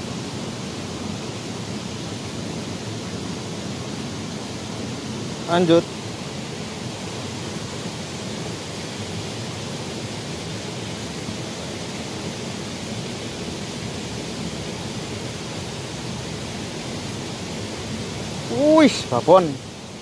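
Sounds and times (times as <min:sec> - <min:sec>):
shallow stream flowing: 0:00.0 - 0:20.0.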